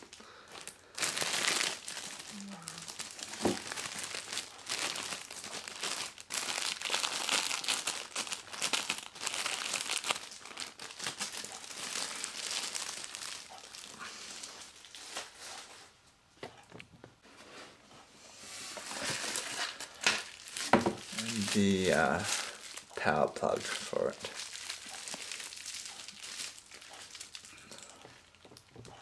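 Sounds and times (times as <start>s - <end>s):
plastic wrapping crinkling: 0.0s - 15.9s, 18.5s - 29.0s.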